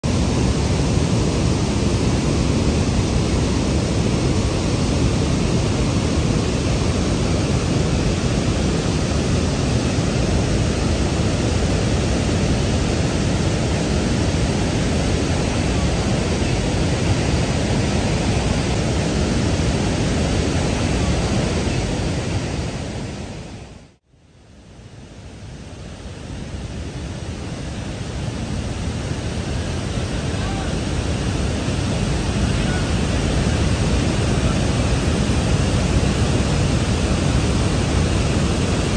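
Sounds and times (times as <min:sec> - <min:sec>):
loud rush of water: 0:00.0 - 0:38.9.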